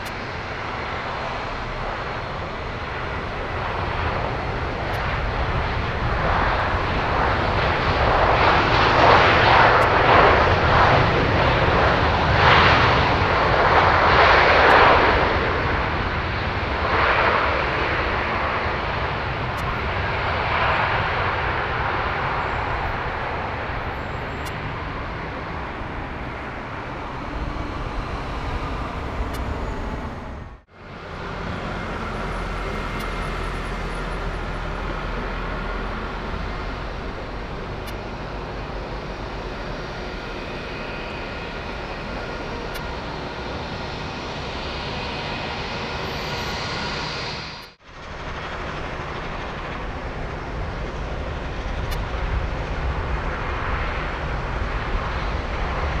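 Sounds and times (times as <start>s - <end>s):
faint turbine whine: 0.0s - 56.0s
jet engines running: 0.0s - 56.0s.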